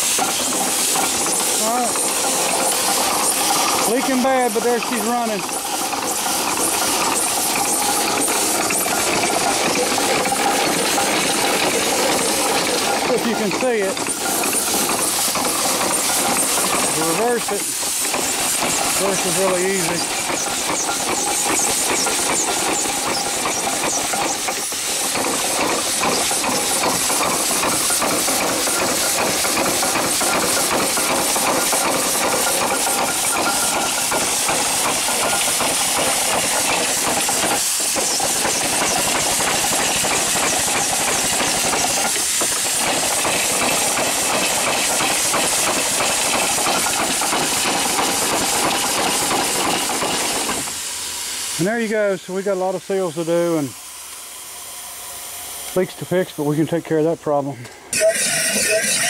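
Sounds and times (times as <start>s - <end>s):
small steam engine running: 0.0s - 59.0s
steam leaking hiss: 0.0s - 59.0s.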